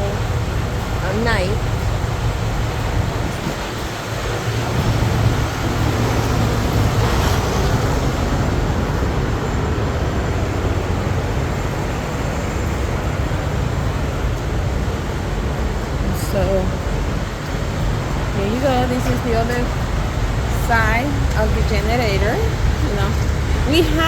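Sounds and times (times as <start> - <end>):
generator engine drone: 0.0 - 24.0.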